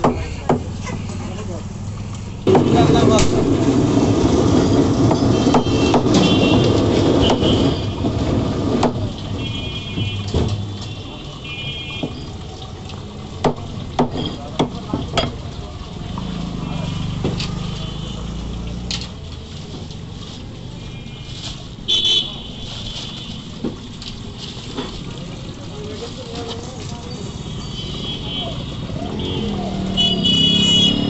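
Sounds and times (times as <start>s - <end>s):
market background noise: 0.0s - 31.0s.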